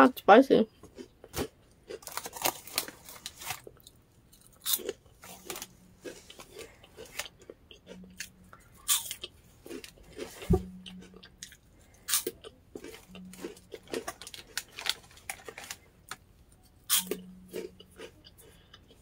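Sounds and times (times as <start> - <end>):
crisp crunchy chewing: 0.8 - 19.0.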